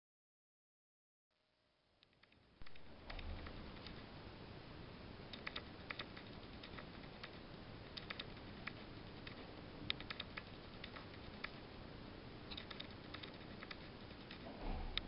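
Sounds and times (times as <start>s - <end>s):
faint steady hiss: 1.3s - 15.0s.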